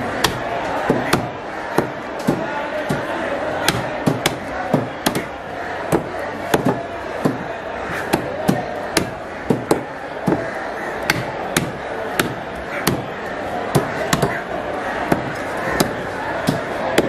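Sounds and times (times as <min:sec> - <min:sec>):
cleaver chopping on wooden block: 0:00.2 - 0:05.3, 0:05.9 - 0:10.5, 0:11.1 - 0:13.0, 0:13.7 - 0:14.4, 0:15.1 - 0:17.0.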